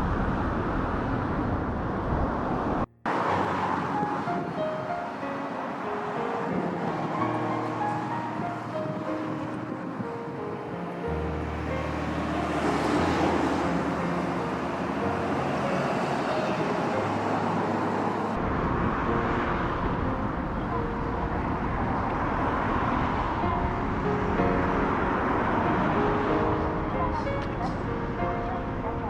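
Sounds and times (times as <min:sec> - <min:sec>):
road traffic hum: 0:00.0 - 0:29.0.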